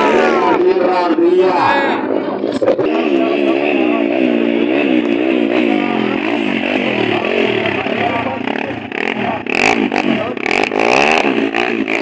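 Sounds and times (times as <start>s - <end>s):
spectators' voices: 0.0s - 10.4s
dirt bike engine revving: 0.0s - 12.0s.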